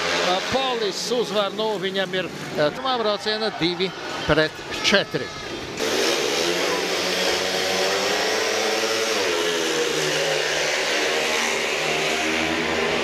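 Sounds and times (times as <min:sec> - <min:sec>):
motorcycle engines at full throttle: 0:00.0 - 0:04.8, 0:05.4 - 0:13.0.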